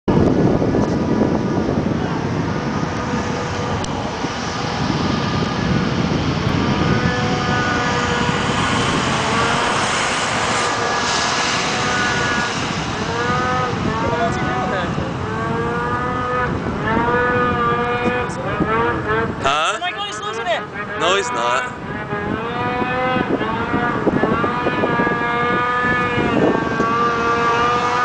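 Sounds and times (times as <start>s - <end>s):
wind rumble on microphone: 0.0s - 28.0s
distant snowmobile engine whine: 0.1s - 28.0s.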